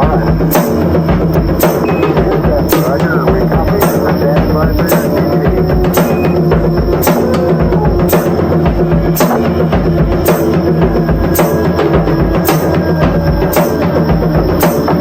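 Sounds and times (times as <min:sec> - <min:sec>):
dense busy drumming: 0:00.0 - 0:15.0
pounding low drum: 0:00.0 - 0:15.0.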